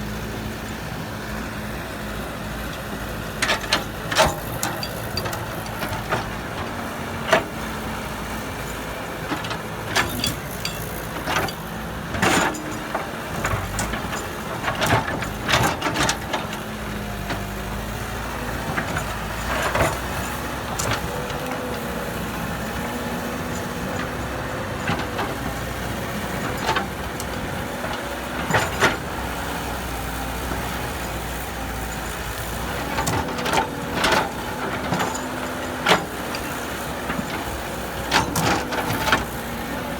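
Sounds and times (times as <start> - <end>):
diesel construction machinery running: 0.0 - 39.9.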